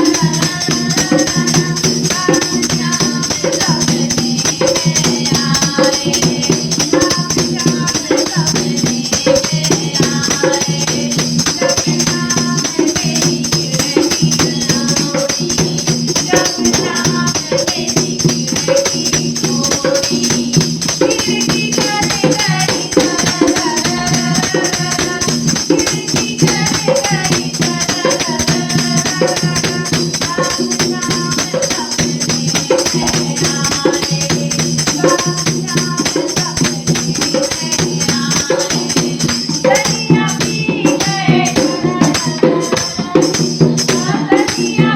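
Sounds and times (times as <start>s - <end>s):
jingling hand percussion: 0.0s - 44.9s
women singing devotional song: 0.0s - 44.9s.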